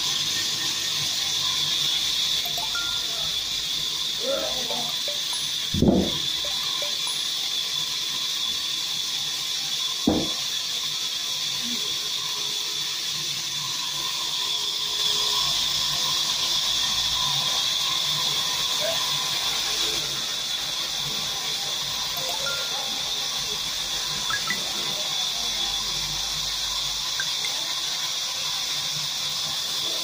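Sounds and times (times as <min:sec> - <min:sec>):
band saw whining: 0:00.0 - 0:30.0.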